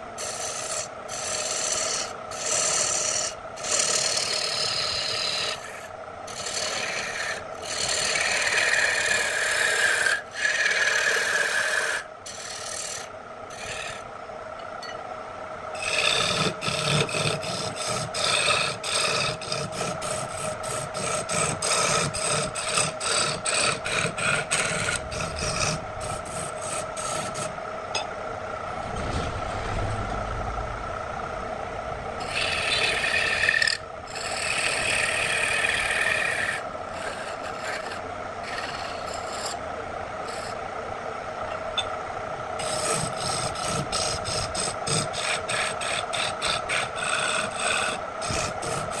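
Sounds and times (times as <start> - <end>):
turning tool scraping wood: 0.0 - 14.1, 15.8 - 27.6, 32.2 - 39.6, 40.2 - 40.6, 42.6 - 49.0
wood lathe humming: 0.0 - 14.1, 15.7 - 28.0, 32.2 - 40.6, 42.6 - 49.0.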